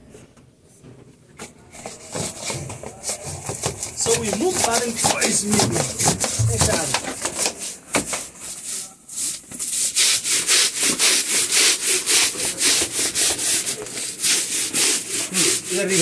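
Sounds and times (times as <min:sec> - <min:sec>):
brush scrubbing metal floor: 0:01.7 - 0:16.0.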